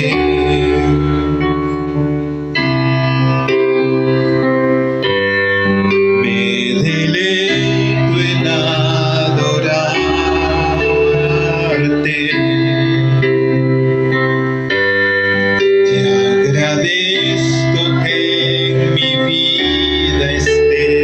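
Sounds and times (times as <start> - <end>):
electric piano and organ chords: 0.0 - 21.0
steady bass: 0.0 - 21.0.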